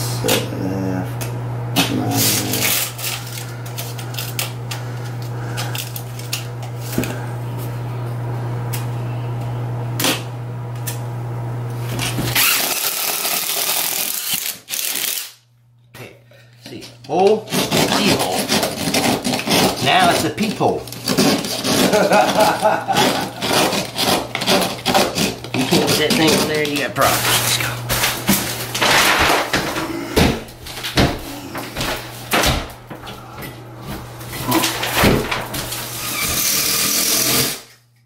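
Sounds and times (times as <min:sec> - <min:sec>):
steady low hum: 0:00.0 - 0:37.8.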